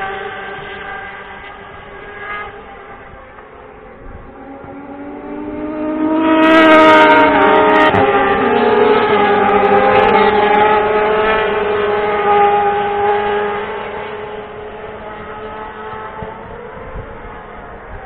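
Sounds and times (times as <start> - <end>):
racing motorcycles passing: 0.0 - 18.0.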